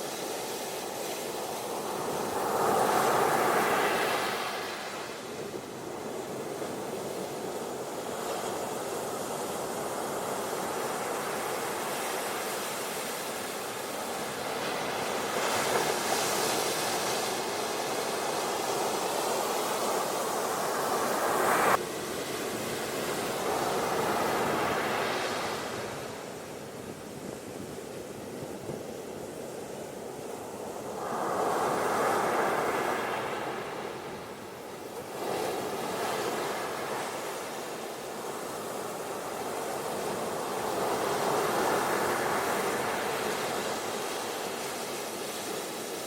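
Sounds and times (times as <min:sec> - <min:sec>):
ocean waves washing onto beach: 0:00.0 - 0:46.0.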